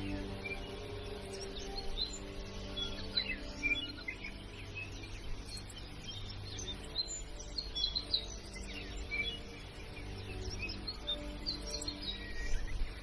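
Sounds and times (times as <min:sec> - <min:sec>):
small birds chirping: 0:00.0 - 0:13.0
soft music with low held notes: 0:00.0 - 0:13.0.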